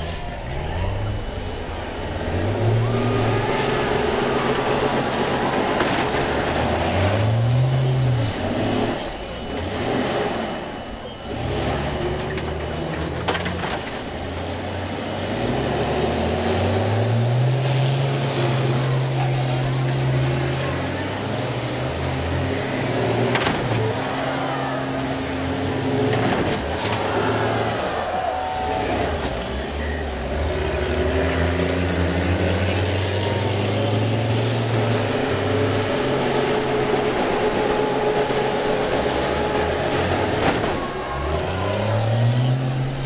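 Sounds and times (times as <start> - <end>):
bus engines revving: 0.0 - 43.0.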